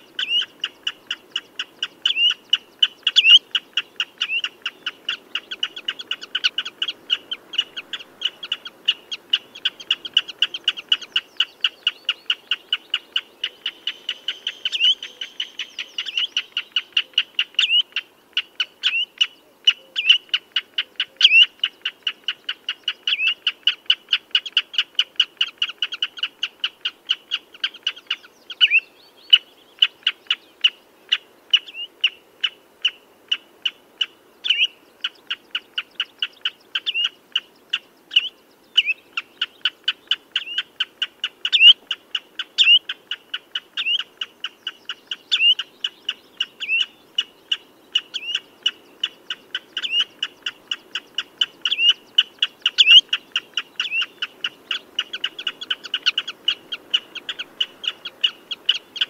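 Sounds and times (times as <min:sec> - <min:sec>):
shorebird sharp piping calls: 0:00.1 - 0:29.9, 0:33.6 - 0:59.0.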